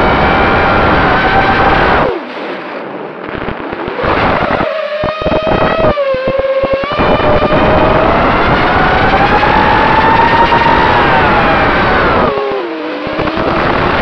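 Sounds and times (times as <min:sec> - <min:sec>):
drone motors and propellers whining: 0:00.0 - 0:02.3, 0:03.8 - 0:14.0
sharp crackles: 0:00.0 - 0:14.0.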